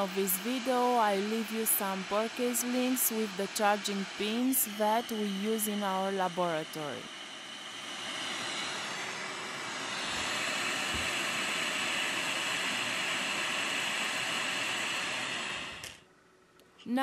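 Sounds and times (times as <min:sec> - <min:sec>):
hot-air station blowing air: 0:00.0 - 0:16.1.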